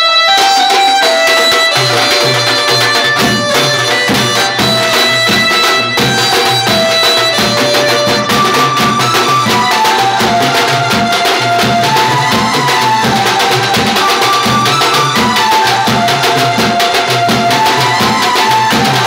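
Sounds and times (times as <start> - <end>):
banjo band music: 0.0 - 19.0
steel drum: 0.0 - 19.0
snare drum beat: 0.6 - 19.0.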